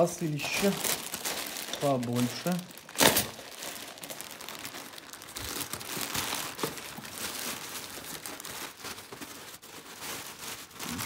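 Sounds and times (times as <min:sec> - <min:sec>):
plastic mailer bag crinkling: 0:00.0 - 0:11.0.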